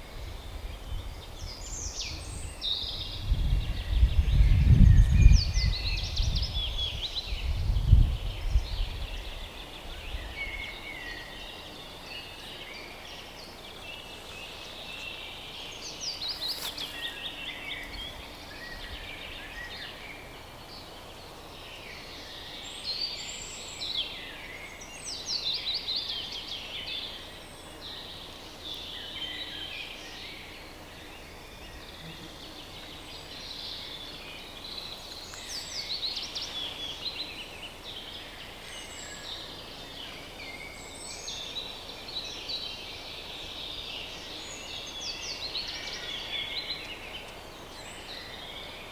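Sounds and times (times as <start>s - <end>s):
songbirds singing: 0.0s - 48.9s.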